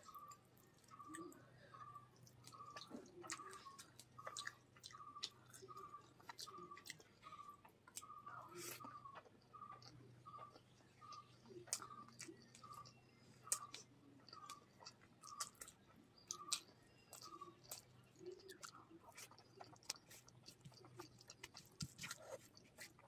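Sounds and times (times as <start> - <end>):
wet chewing and lip-smacking: 0.0 - 23.0.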